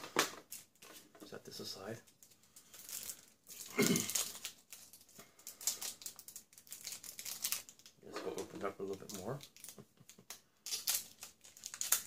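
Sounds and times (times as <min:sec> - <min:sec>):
packet crinkling: 0:02.1 - 0:12.0.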